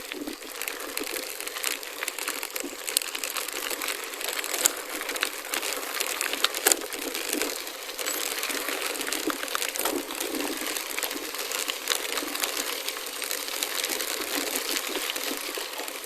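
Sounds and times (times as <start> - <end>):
bike tyres crunching on gravel: 0.0 - 16.0
loose stones clicking: 0.0 - 16.0.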